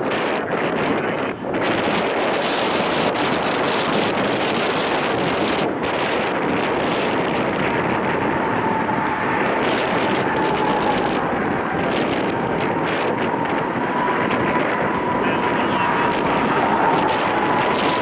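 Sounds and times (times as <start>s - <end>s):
wind buffeting microphone: 0.0s - 18.0s
distant freight train running: 1.2s - 18.0s.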